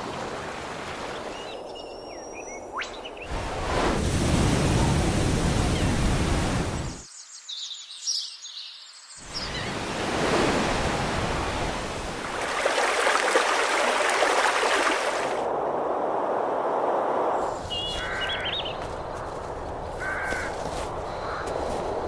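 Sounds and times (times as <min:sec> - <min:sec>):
sea surf washing: 0:00.0 - 0:01.6, 0:03.3 - 0:07.0, 0:09.3 - 0:22.0.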